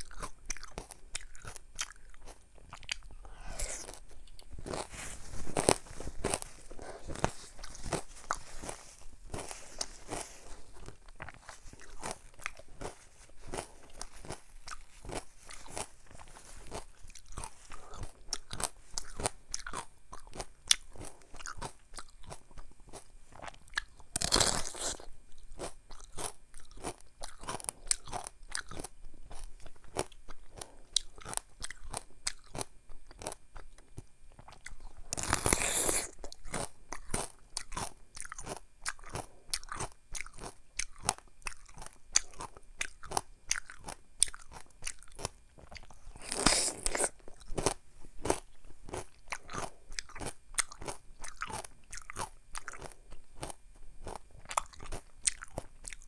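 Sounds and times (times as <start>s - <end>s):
crunchy biting and chewing: 0.0s - 56.0s.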